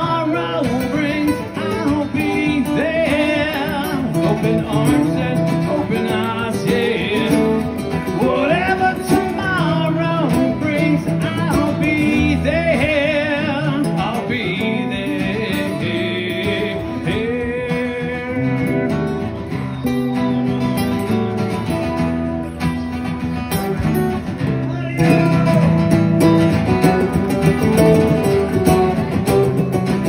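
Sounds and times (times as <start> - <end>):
acoustic guitar lead melody: 0.0 - 30.0
acoustic guitar strumming chords: 0.0 - 30.0.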